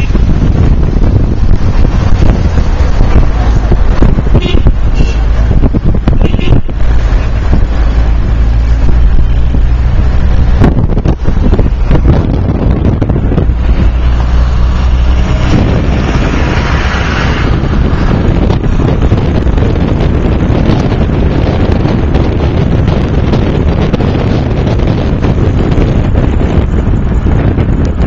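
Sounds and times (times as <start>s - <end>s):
car engine hum: 0.0s - 28.0s
road noise from car: 0.0s - 28.0s
wind on microphone: 0.0s - 28.0s.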